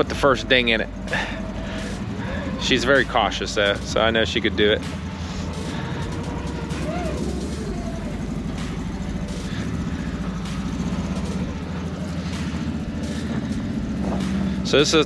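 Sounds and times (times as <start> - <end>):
engine running at low revs: 0.0 - 15.0
tyres on gravel: 0.0 - 15.0.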